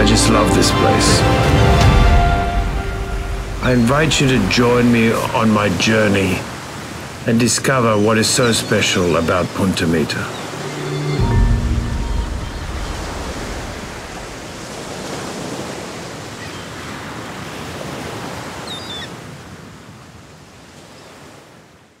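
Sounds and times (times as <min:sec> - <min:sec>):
ocean surf washing: 0:00.0 - 0:21.9.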